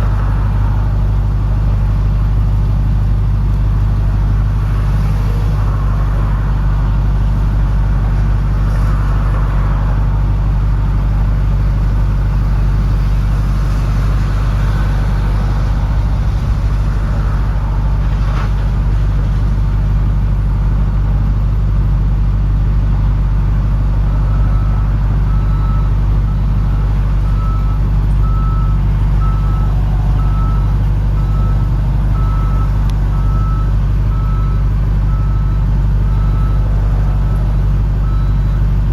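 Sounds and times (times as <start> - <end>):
car engine exhaust drone: 0.0 - 38.9.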